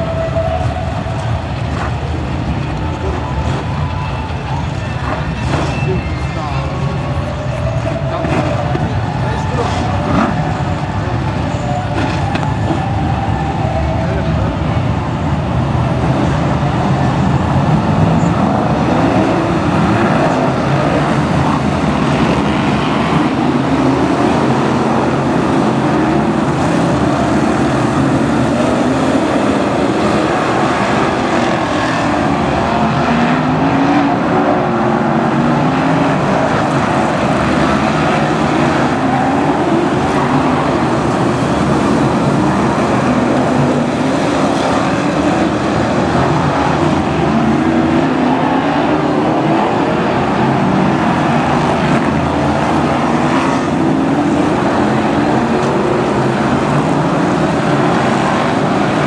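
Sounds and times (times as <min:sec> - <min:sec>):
stock car engines racing: 0:00.0 - 0:59.0.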